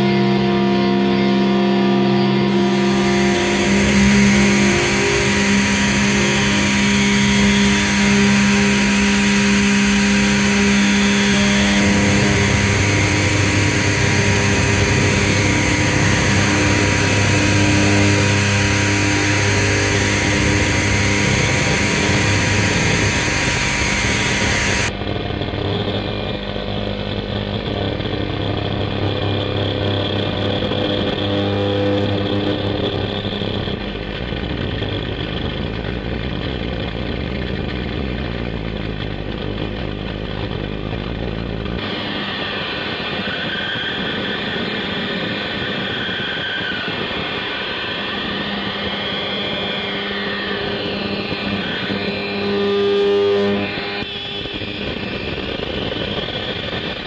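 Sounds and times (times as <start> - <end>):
droning experimental music: 0.0 - 57.0.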